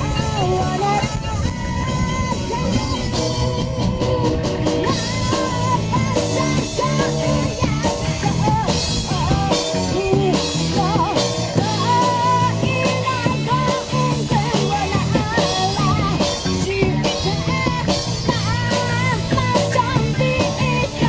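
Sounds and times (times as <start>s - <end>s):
drums: 0.0s - 21.0s
electric guitars: 0.0s - 21.0s
keyboard: 0.0s - 21.0s
woman singing: 0.0s - 21.0s.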